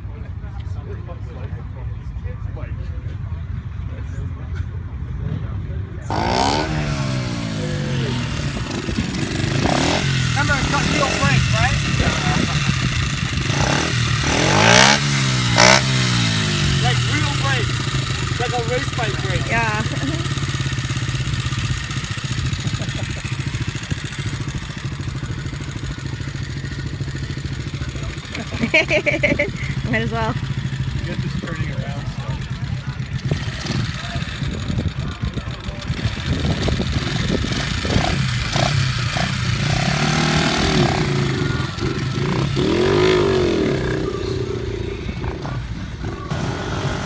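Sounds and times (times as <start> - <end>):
small motorcycle engine running: 6.1 - 47.0.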